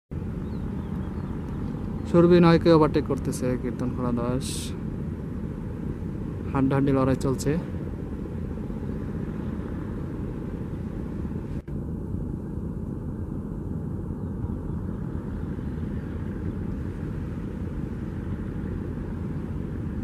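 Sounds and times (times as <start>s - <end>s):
boat engines rumbling: 0.1s - 20.0s.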